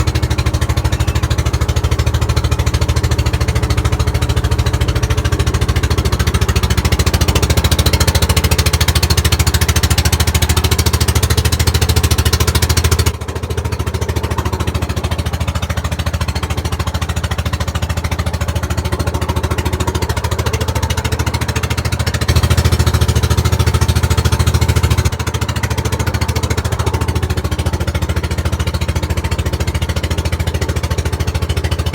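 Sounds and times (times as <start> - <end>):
boat engine pulsing: 0.0 - 31.9.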